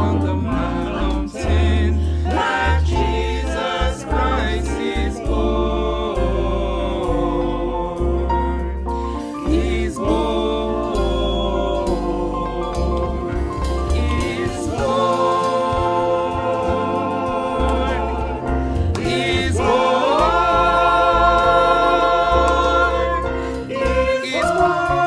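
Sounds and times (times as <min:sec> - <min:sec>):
mixed choir singing a carol: 0:00.0 - 0:25.0.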